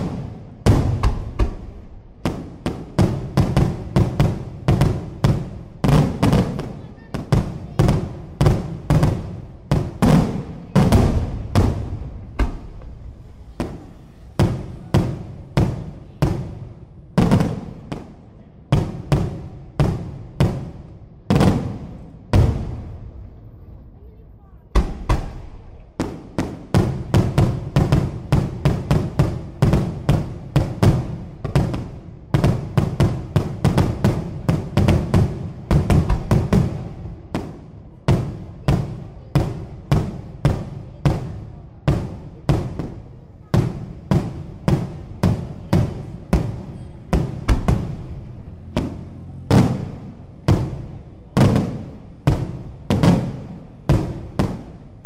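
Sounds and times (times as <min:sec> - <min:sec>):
fireworks bangs with echo: 0:00.0 - 0:23.5, 0:24.7 - 0:55.0.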